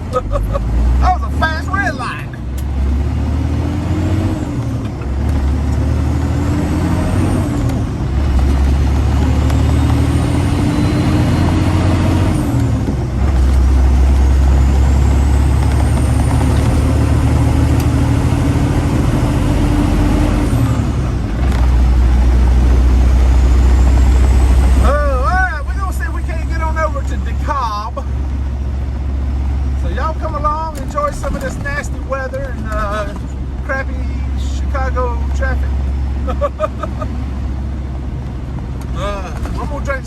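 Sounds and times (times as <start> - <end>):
truck diesel engine accelerating: 0.0 - 40.0
high turbo whine: 0.8 - 40.0.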